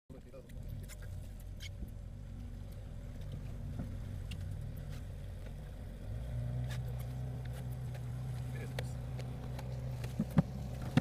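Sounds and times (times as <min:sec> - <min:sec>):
outboard motor humming: 0:00.4 - 0:11.0.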